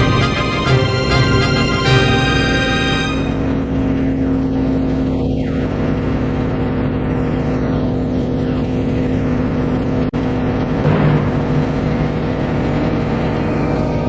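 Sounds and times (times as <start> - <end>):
ship engine drone: 0.0 - 14.0.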